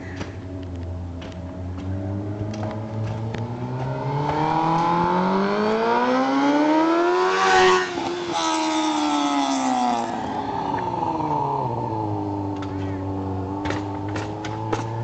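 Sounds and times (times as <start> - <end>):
motorcycle accelerating past: 0.9 - 15.0.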